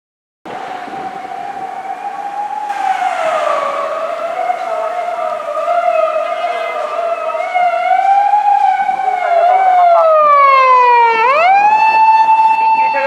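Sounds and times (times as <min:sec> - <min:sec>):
police siren wailing: 0:00.5 - 0:13.0.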